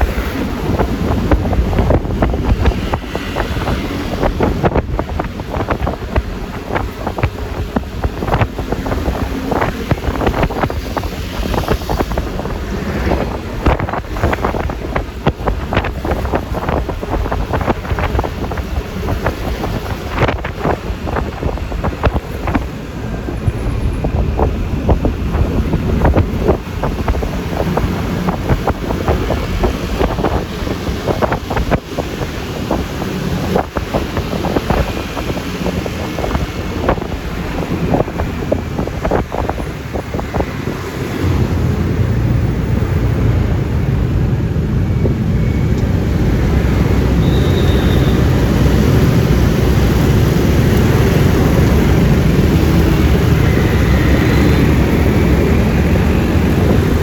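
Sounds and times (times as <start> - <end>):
scooter engine and road rumble: 0.0 - 57.0
wind buffeting microphone: 0.0 - 57.0.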